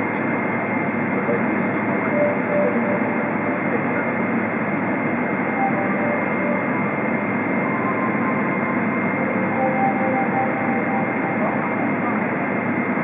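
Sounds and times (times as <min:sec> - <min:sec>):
high jet engine whine: 0:00.0 - 0:13.0.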